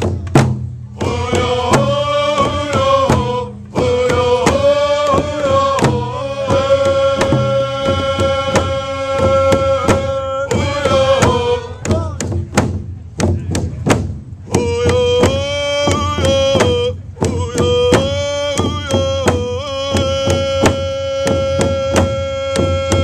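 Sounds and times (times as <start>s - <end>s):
hand drums beating: 0.0s - 23.0s
group singing in unison: 1.0s - 12.2s, 14.5s - 23.0s.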